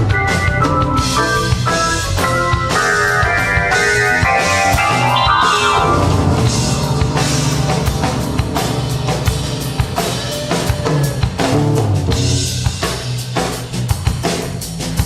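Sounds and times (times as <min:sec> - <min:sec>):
jazz-rock fusion band: 0:00.0 - 0:15.0
rapid snare and cymbal hits: 0:00.0 - 0:15.0.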